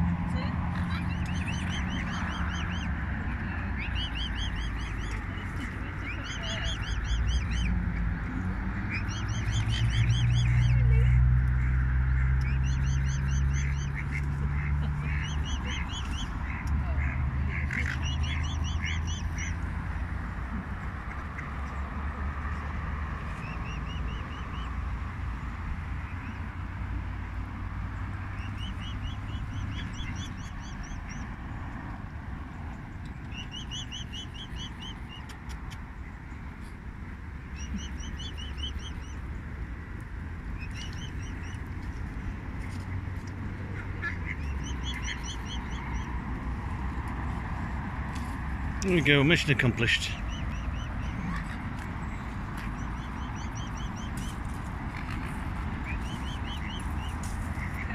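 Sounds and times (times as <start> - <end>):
birds chirping: 0.4 - 36.6, 37.3 - 57.9.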